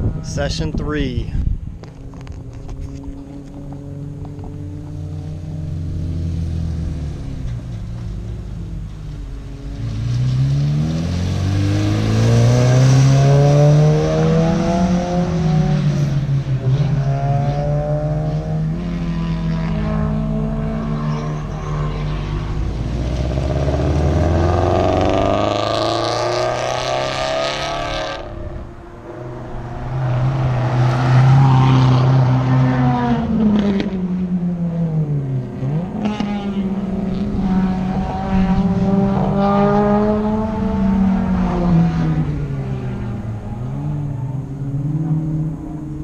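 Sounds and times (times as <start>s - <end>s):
race car engines revving: 0.0s - 46.0s.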